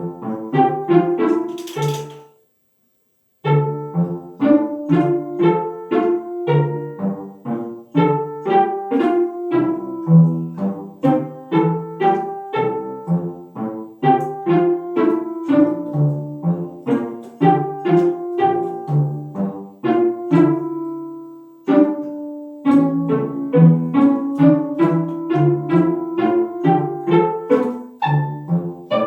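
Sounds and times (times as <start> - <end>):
plucked string music: 0.0 - 2.2, 3.5 - 20.9, 21.7 - 29.0.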